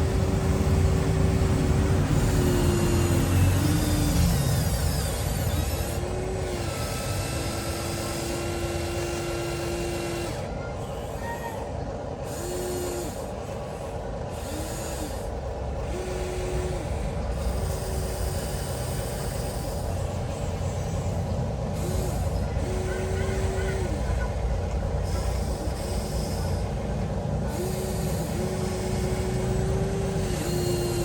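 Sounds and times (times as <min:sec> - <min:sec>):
rough mechanical noise: 0:00.0 - 0:31.0
small electric motors whirring: 0:00.0 - 0:31.0.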